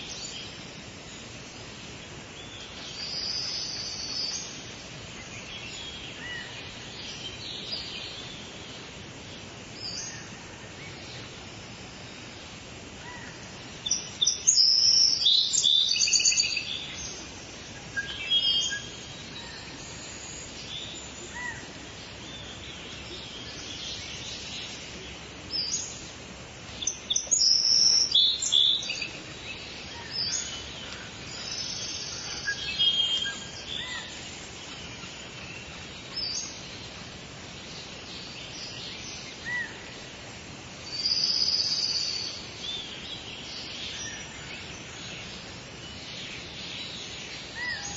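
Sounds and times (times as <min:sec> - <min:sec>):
birds chirping and trilling: 0:00.0 - 0:47.9
steady background hiss: 0:00.0 - 0:47.9.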